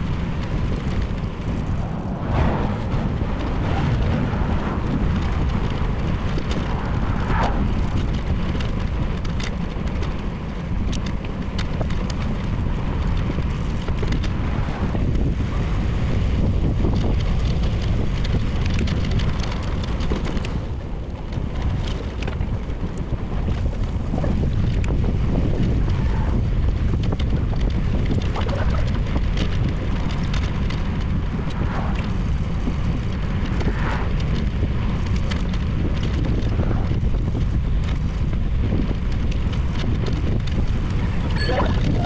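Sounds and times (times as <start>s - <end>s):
faint clicks and ticks: 0.0s - 42.0s
wind buffeting microphone: 0.0s - 42.0s.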